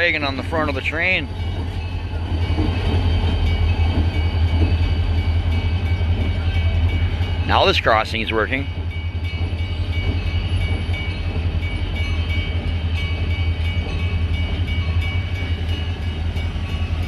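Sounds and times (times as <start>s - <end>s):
crossing warning bell ringing: 0.0s - 17.0s
diesel locomotive engines droning: 0.0s - 17.0s.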